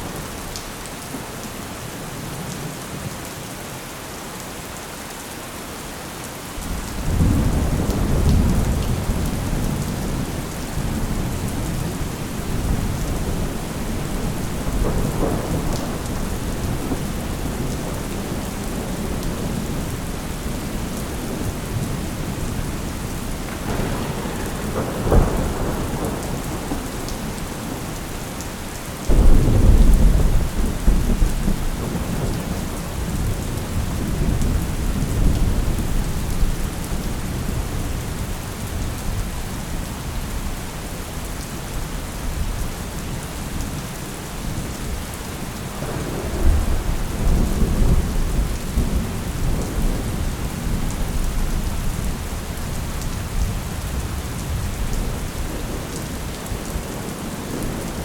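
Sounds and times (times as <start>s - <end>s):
steady rain: 0.0s - 58.0s
thunder clap and rumble: 6.6s - 40.6s, 44.5s - 58.0s.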